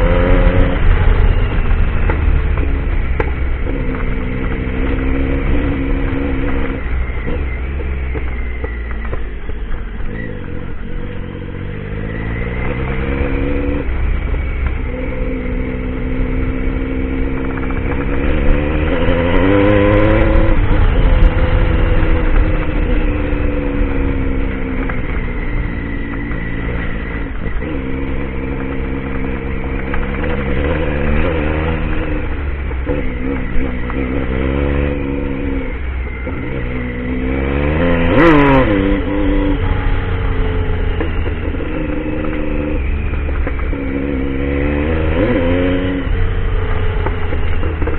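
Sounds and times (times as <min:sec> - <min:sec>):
low rumble of wind and road: 0:00.0 - 0:47.9
motorcycle engine revving: 0:00.0 - 0:47.9.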